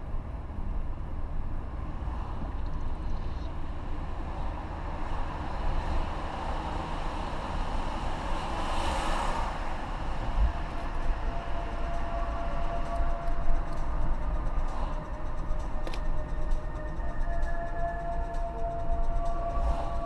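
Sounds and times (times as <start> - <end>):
car road and engine rumble: 0.0 - 20.0
tunnel rush of noise: 0.0 - 20.0.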